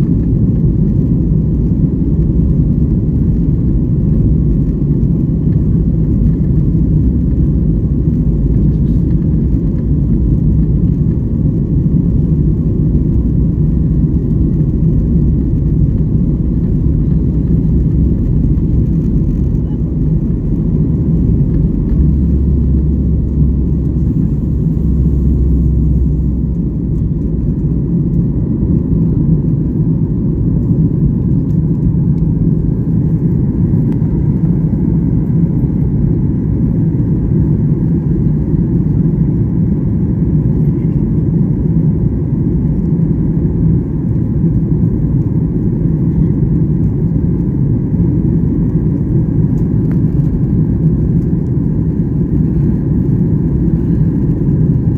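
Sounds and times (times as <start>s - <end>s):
deep hum: 0.0s - 46.3s
airliner cabin engine rumble: 0.0s - 54.9s.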